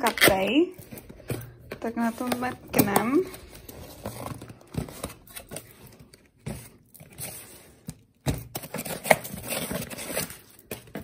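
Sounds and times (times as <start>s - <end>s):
box packing rustling: 0.0s - 11.0s.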